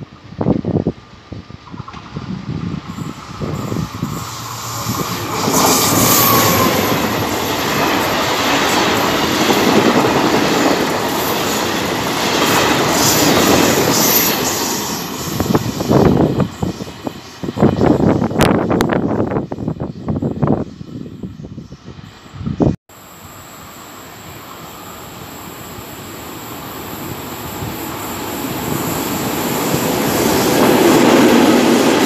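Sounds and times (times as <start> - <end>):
train wheels rumbling on rails: 0.0 - 22.8, 24.1 - 32.0.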